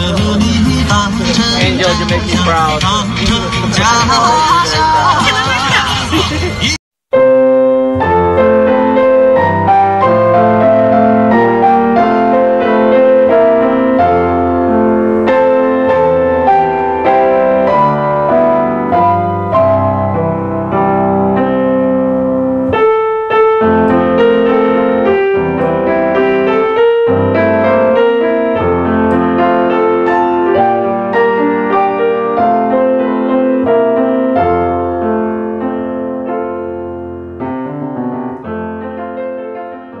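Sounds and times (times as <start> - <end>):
slow piano music: 7.1 - 40.0.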